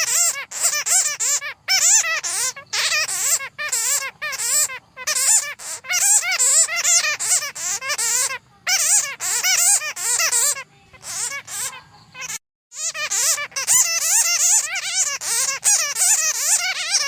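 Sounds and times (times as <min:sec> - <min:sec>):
bats chattering: 0:00.0 - 0:17.0.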